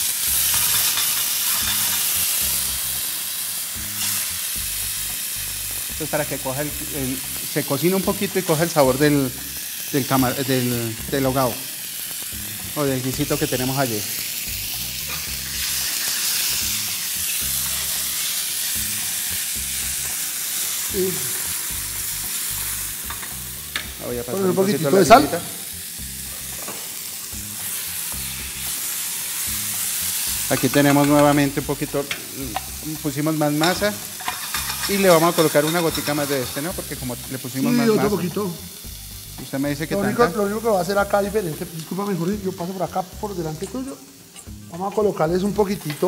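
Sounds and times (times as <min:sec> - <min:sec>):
shrimp sizzling in oil: 0:00.0 - 0:46.0.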